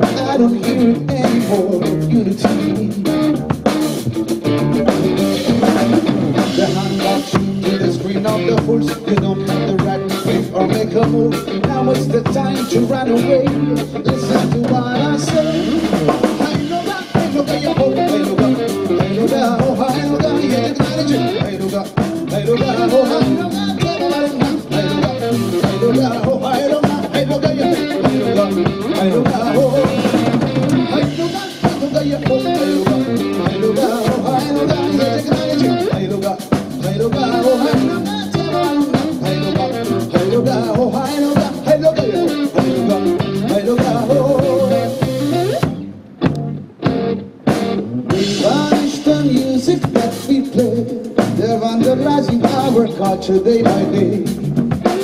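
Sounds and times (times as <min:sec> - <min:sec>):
drum kit beat: 0:00.0 - 0:55.0
electric bass: 0:00.0 - 0:55.0
electric guitar: 0:00.0 - 0:55.0.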